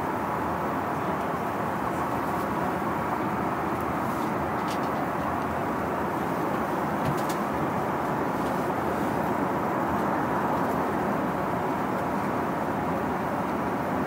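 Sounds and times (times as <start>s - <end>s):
airliner cabin hum: 0.0s - 14.0s.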